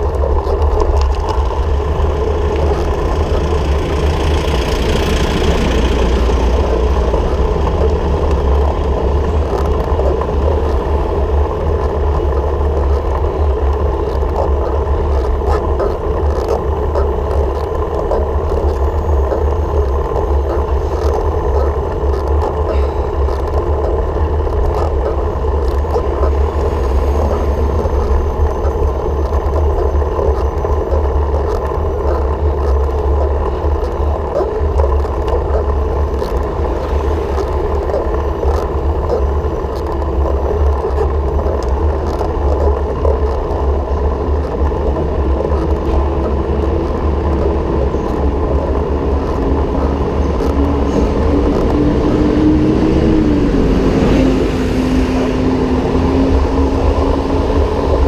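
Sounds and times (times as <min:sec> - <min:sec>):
low hum: 0:00.0 - 0:58.0
road noise: 0:00.0 - 0:58.0
wind on microphone: 0:00.0 - 0:58.0.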